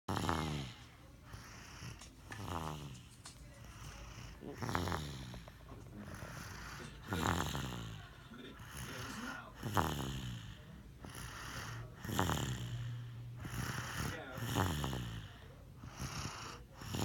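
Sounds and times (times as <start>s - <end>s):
loud rasping snores: 0.1s - 3.1s, 3.7s - 17.0s
quiet rumbling breaths: 0.1s - 17.0s.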